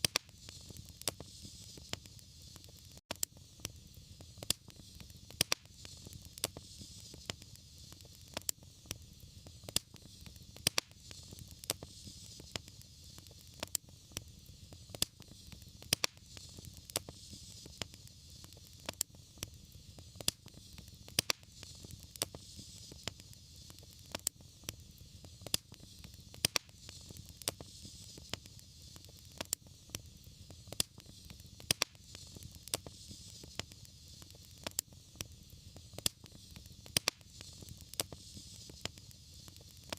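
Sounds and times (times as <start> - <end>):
soft hiss: 0.0 - 39.9
wood fire crackling: 0.0 - 39.9.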